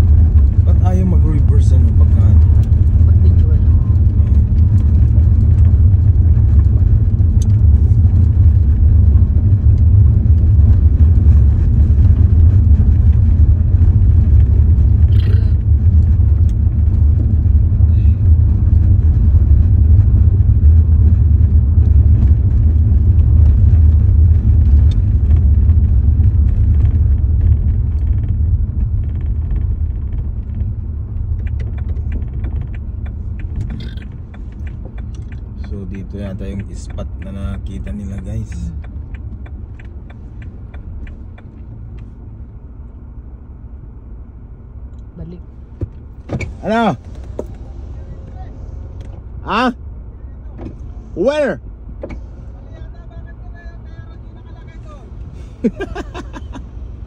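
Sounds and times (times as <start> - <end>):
car driving on gravel: 0.0 - 57.0.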